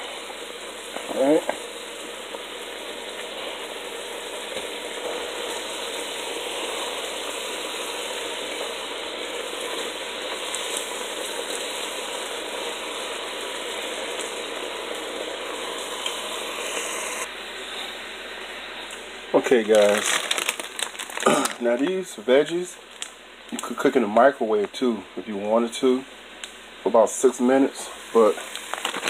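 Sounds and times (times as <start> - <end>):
chicken sizzling in a pan: 0.0 - 24.7, 25.8 - 29.0.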